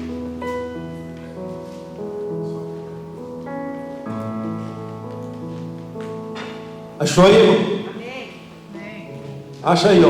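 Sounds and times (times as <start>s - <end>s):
sustained keyboard chords: 0.0s - 10.0s.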